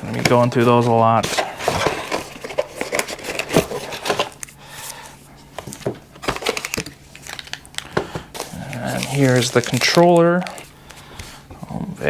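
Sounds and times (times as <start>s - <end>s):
boxes and parts being handled: 0.0s - 11.4s.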